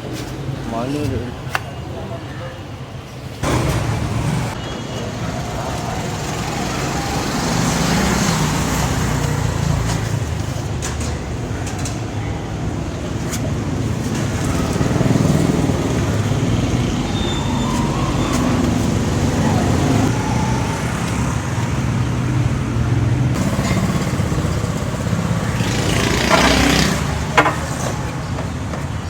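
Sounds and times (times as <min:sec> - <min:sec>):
vehicle engine rumbling: 0:03.4 - 0:29.0.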